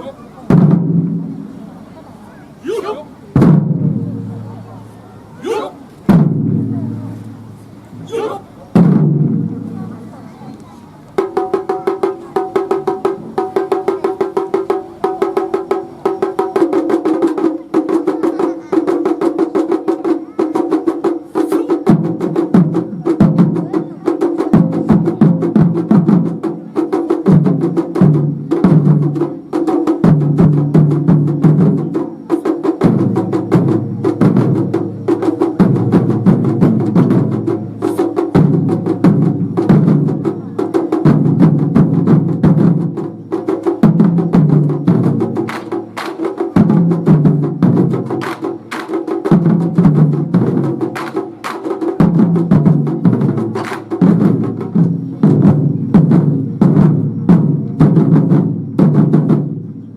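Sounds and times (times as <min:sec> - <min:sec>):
ensemble drumming: 0:00.4 - 0:01.7, 0:02.6 - 0:04.7, 0:05.4 - 0:10.2, 0:11.2 - 0:59.8.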